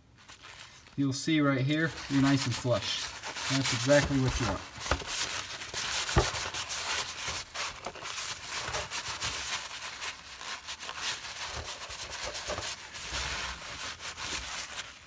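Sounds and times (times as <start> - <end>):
paper towel rubbing: 0.1 - 15.0.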